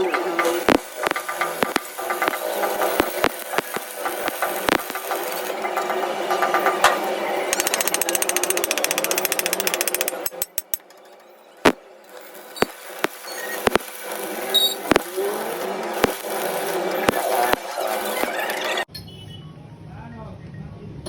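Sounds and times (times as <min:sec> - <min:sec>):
arc welding crackle: 0:00.0 - 0:10.8, 0:11.6 - 0:18.9.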